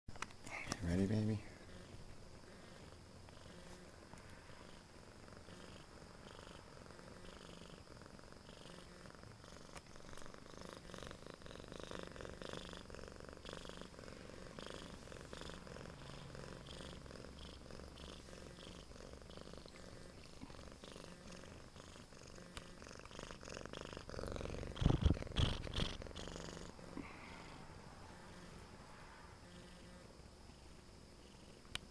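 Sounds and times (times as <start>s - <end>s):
cat purring: 0.4s - 31.9s.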